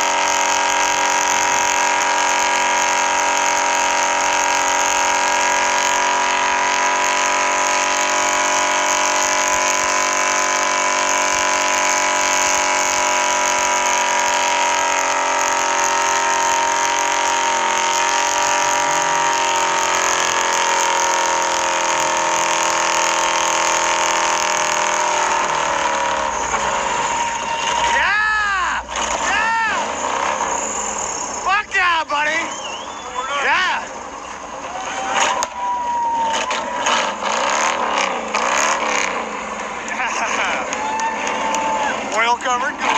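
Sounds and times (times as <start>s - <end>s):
truck engine revving high: 0.0s - 42.9s.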